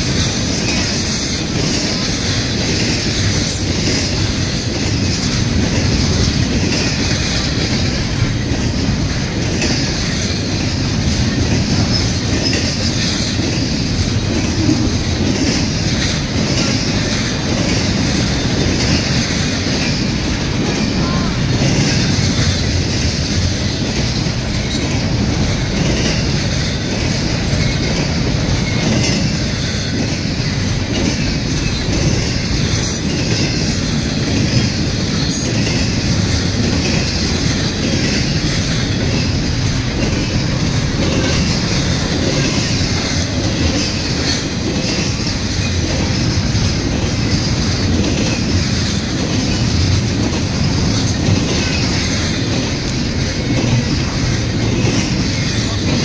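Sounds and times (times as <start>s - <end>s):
clickety-clack over rail joints: 0.0s - 56.0s
freight train wheels rumbling on rails: 0.0s - 56.0s.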